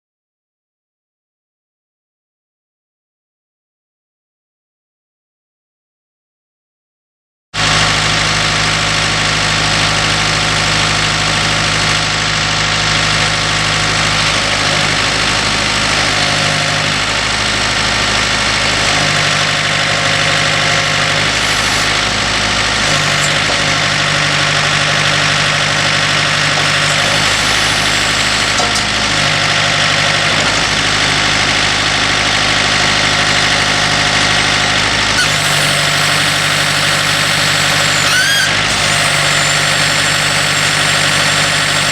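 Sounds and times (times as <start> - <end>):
tractor engine running: 7.6 - 41.9.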